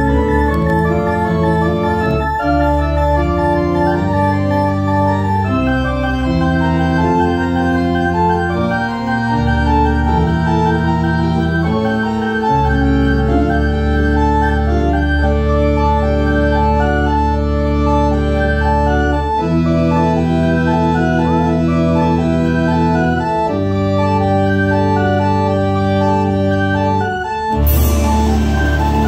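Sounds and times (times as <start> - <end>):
pipe organ playing chords: 0.0 - 29.0.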